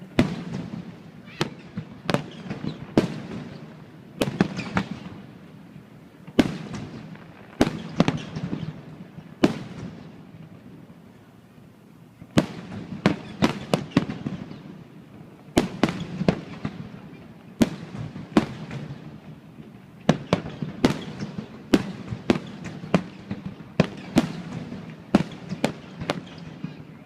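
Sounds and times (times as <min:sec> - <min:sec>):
fireworks bursting: 0:00.0 - 0:11.1, 0:12.2 - 0:27.0.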